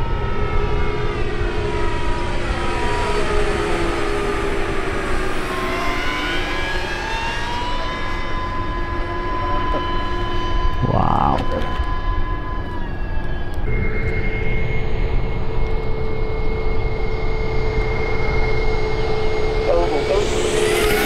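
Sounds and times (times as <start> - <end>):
electric ducted fans whining: 0.0 - 21.0.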